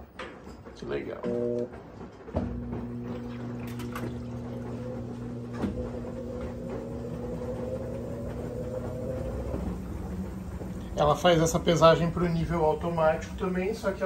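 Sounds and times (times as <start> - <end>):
washing machine motor whine: 0.7 - 14.0.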